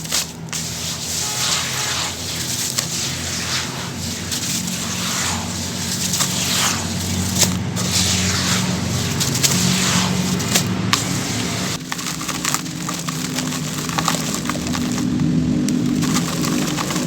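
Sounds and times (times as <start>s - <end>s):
chunks crumbling in water: 0.0s - 17.0s.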